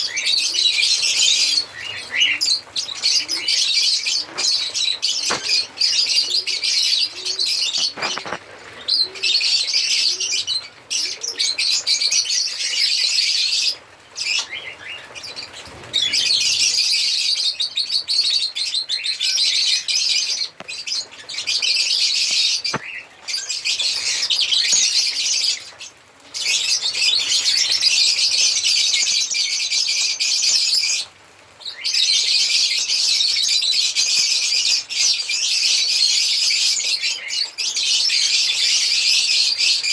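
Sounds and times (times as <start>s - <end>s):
lovebirds chattering and chirping: 0.0s - 39.9s.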